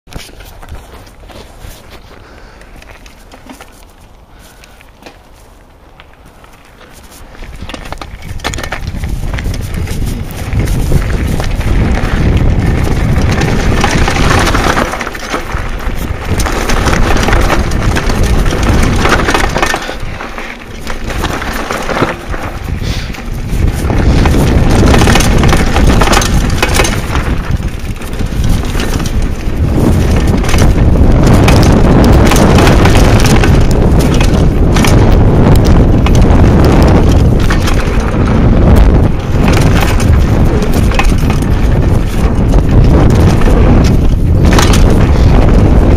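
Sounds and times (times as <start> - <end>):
bike rattling over bumps: 0.1 - 45.9
bike tyres on gravel: 0.1 - 45.9
wind noise: 0.1 - 45.9.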